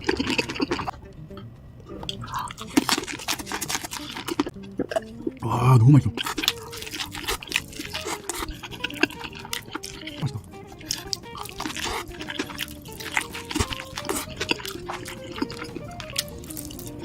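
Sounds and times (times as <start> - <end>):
crisp chewing crunches: 0.0 - 1.0, 2.0 - 5.4, 6.1 - 17.0
soft background music: 0.0 - 17.0.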